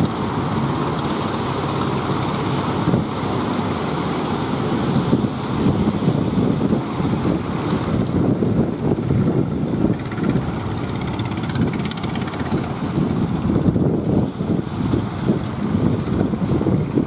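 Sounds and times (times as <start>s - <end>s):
breaking surf: 0.0s - 17.0s
wind buffeting microphone: 0.0s - 17.0s.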